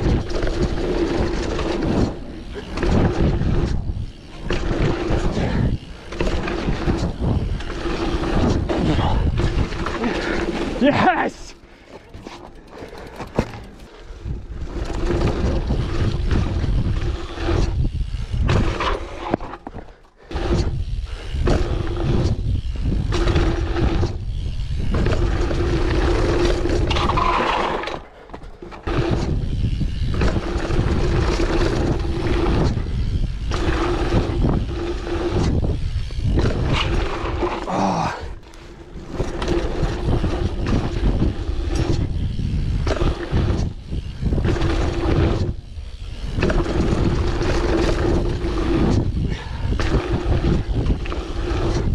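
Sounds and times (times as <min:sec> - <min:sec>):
wind buffeting microphone: 0:00.0 - 0:10.6, 0:12.9 - 0:18.8, 0:20.3 - 0:27.2, 0:28.8 - 0:51.9
bike tyres rumbling on dirt: 0:00.0 - 0:51.9.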